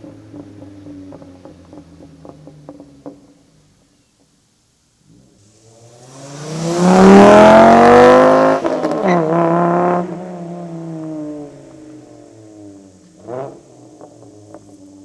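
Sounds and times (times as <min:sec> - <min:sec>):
car engine accelerating: 0:00.0 - 0:04.1, 0:05.0 - 0:15.0.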